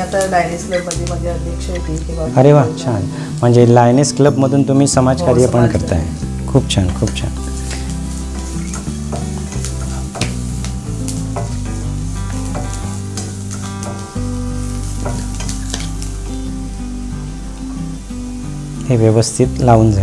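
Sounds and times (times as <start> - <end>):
low sustained music chords: 0.0 - 20.0.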